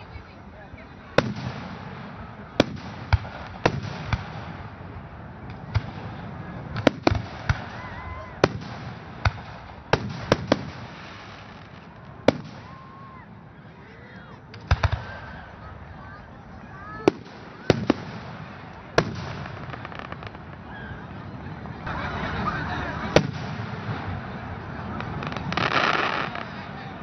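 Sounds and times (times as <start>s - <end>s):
fireworks bursting: 1.0s - 13.6s, 14.4s - 27.0s.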